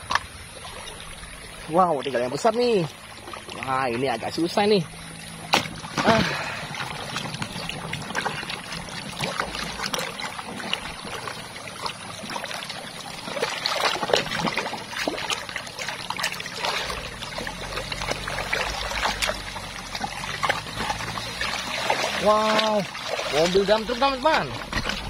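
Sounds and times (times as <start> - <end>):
steady water trickle: 0.0 - 25.0
water splashing and sloshing: 0.0 - 25.0.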